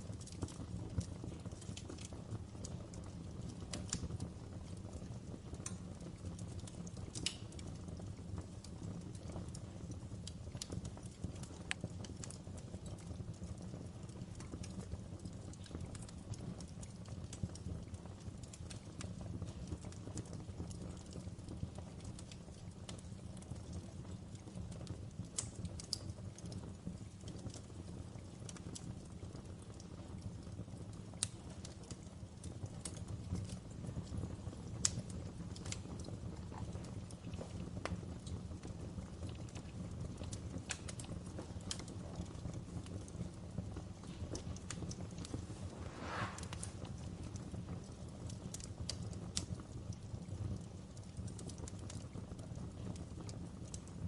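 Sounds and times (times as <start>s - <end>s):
fire crackling in fireplace: 0.0s - 54.0s.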